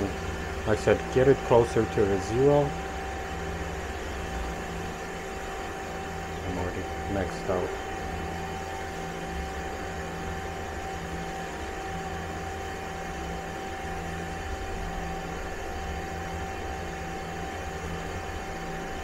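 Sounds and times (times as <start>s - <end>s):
lathe humming with whine: 0.0s - 19.0s.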